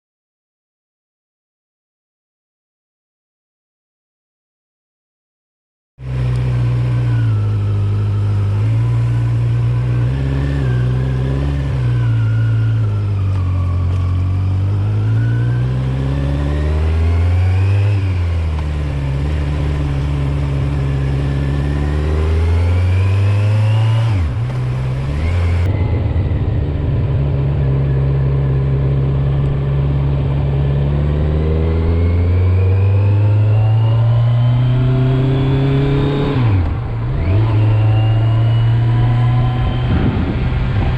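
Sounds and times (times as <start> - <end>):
motorcycle engine accelerating: 6.0 - 40.9.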